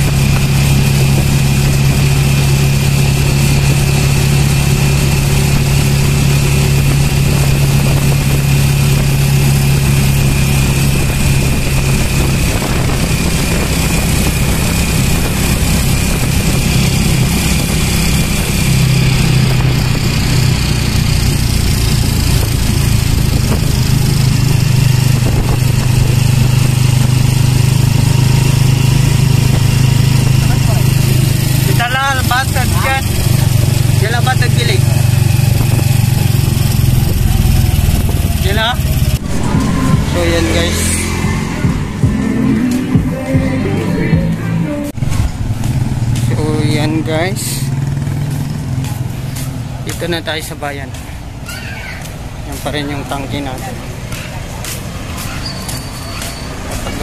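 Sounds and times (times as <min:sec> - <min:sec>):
small motorcycle engine running: 0:00.0 - 0:43.4, 0:44.9 - 0:57.0.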